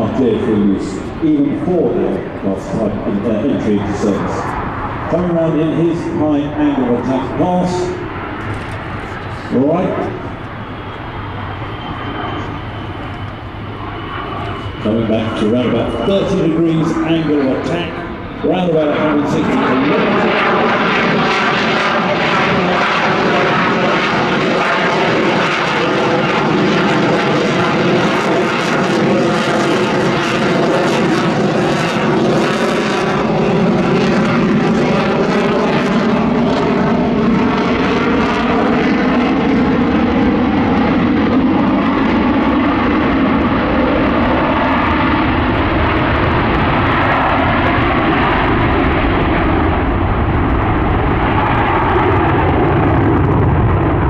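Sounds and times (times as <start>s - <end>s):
jet engines roaring overhead: 0.0s - 54.0s.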